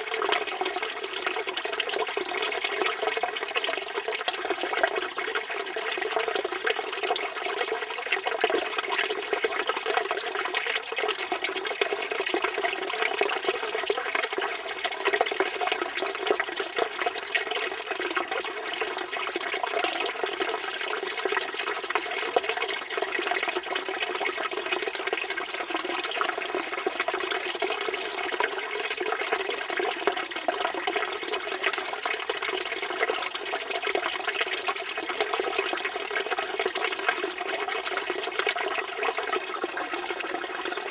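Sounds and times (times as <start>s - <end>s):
fountain water pouring and splashing: 0.0s - 40.9s.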